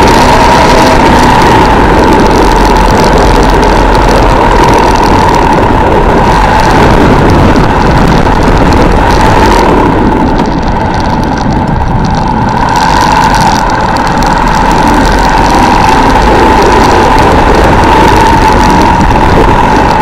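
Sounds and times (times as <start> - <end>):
motorcycle engine running: 0.0 - 20.0
wind and road noise hiss: 0.0 - 20.0.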